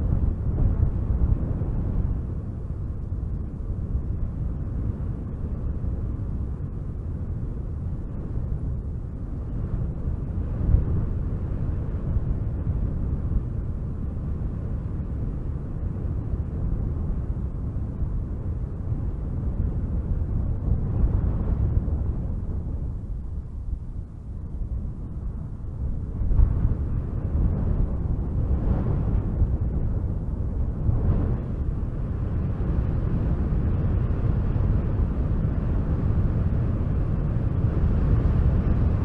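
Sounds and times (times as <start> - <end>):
wind blowing in gusts: 0.0 - 39.0.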